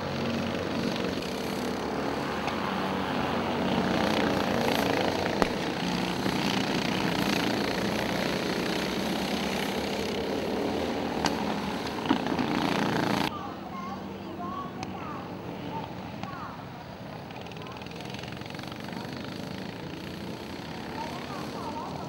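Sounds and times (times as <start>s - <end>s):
go-kart engines buzzing: 0.0s - 22.0s.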